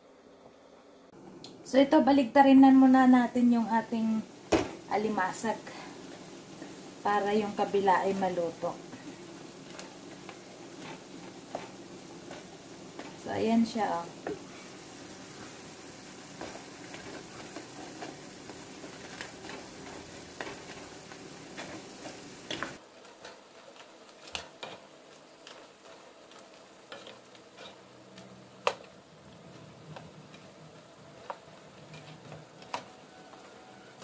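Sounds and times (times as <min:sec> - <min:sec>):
crabs sizzling in a frying pan: 0:02.7 - 0:34.0.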